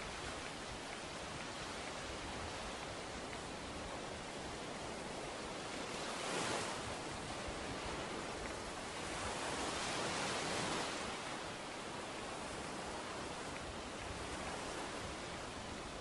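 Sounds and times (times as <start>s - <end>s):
ocean waves washing on beach: 0.0s - 16.0s.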